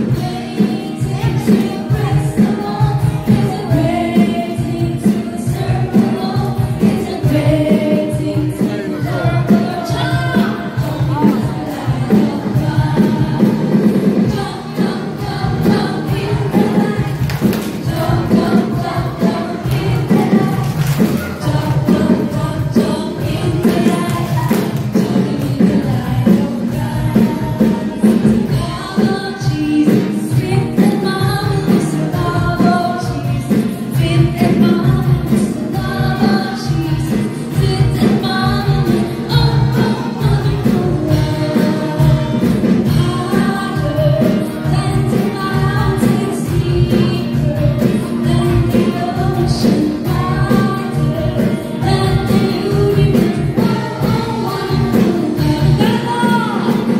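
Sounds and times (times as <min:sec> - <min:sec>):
group singing over a beat: 0:00.0 - 0:56.9.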